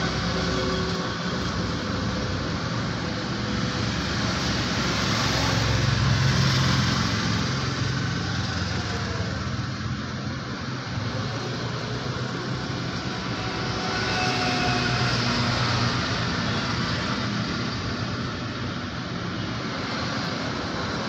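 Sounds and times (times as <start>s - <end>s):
road traffic engines: 0.0s - 21.0s.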